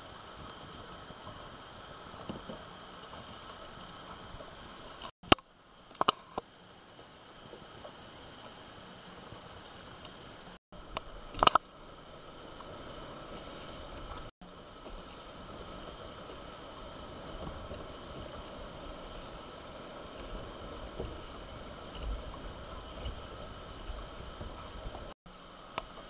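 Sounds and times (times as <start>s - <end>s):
water splashing around kayak: 0.0s - 26.0s.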